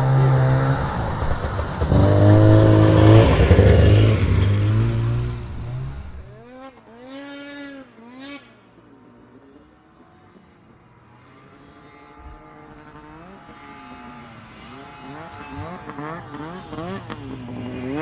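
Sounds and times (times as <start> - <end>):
snowmobile engine revving: 0.0 - 8.4, 11.3 - 18.0.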